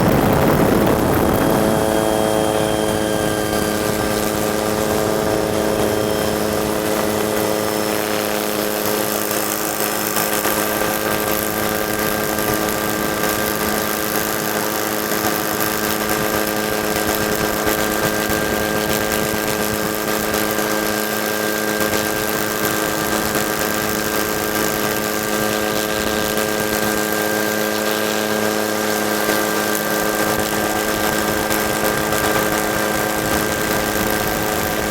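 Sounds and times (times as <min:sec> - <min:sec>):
helicopter engine and rotor drone: 0:00.0 - 0:34.9
steady whining tones: 0:00.0 - 0:34.9.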